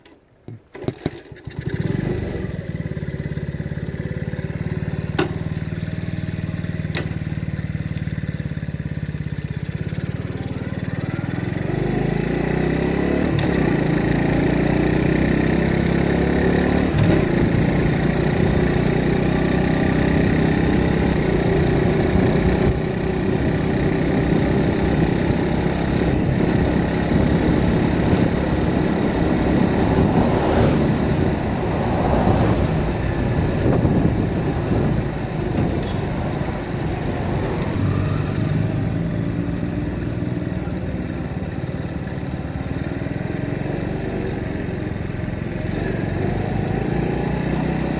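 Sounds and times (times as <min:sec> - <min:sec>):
road and wind noise: 0:00.0 - 0:47.9
motorcycle engine: 0:00.9 - 0:47.9.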